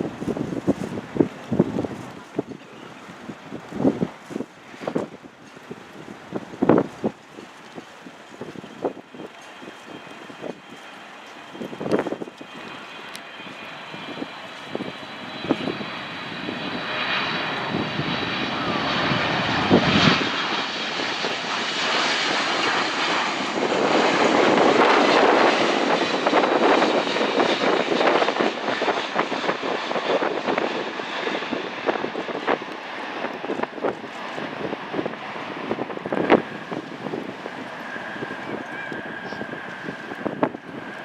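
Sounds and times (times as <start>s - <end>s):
high engine whine: 0.0s - 41.0s
jet airliner flying past: 0.0s - 41.0s.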